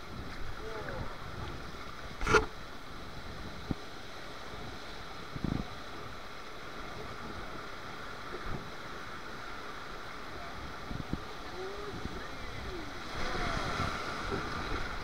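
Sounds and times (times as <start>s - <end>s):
wind on microphone: 0.0s - 9.5s, 10.1s - 15.0s
water rushing: 0.0s - 15.0s.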